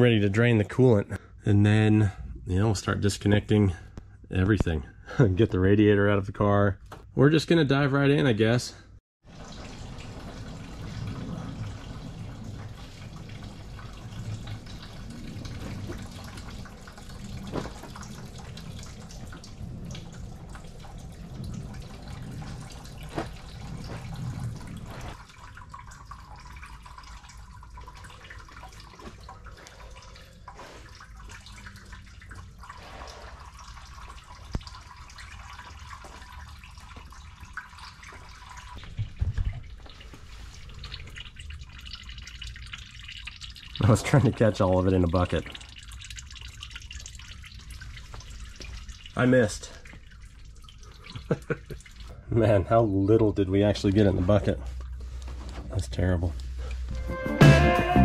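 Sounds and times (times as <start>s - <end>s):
coolant splashing into a plastic bucket: 9.2s - 56.6s.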